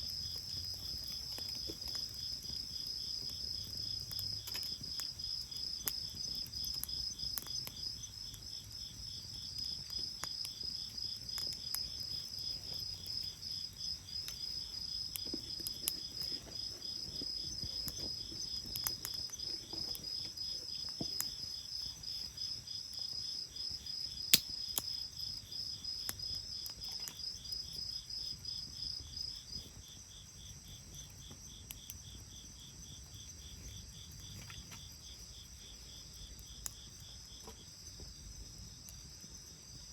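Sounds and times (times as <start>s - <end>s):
bonfire pops and crackles: 0.0s - 30.0s, 36.1s - 39.2s
insects chirping: 0.0s - 39.9s.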